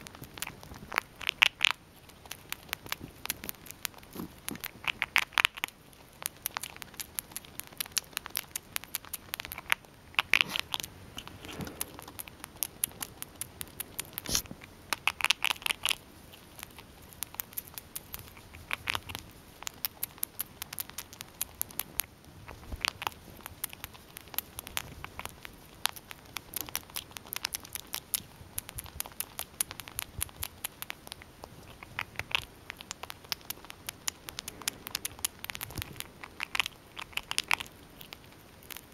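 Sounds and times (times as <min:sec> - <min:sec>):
squirrel gnawing crunchy clicks: 0:00.0 - 0:38.9.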